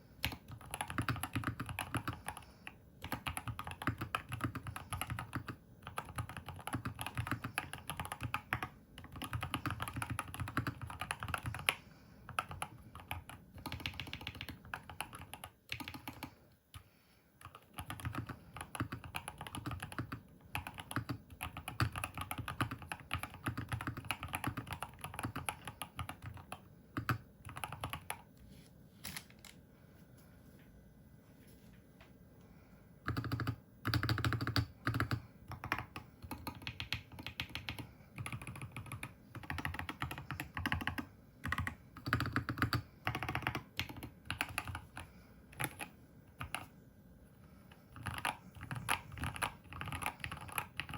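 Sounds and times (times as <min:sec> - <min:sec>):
fast clacky keyboard typing: 0:00.2 - 0:16.4, 0:17.4 - 0:28.3, 0:33.0 - 0:46.7, 0:47.7 - 0:50.9.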